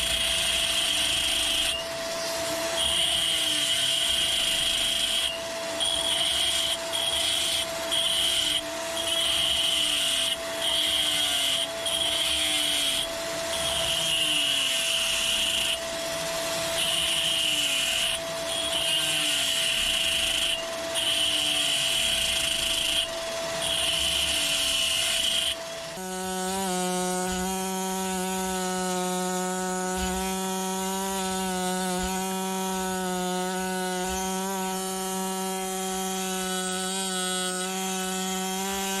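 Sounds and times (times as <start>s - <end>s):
humming motor-driven tool: 0.0s - 39.0s.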